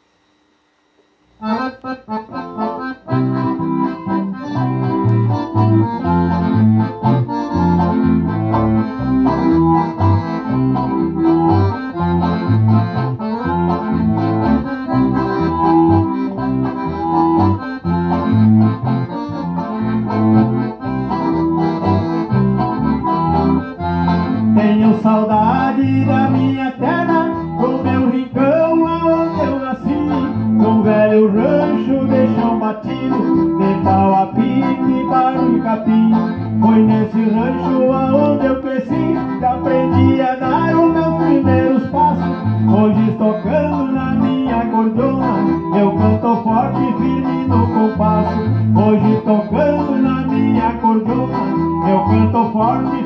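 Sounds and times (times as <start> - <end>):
accordion music: 0.9 - 53.0
guitar accompaniment: 1.4 - 53.0
low bass notes pulsing: 2.0 - 53.0.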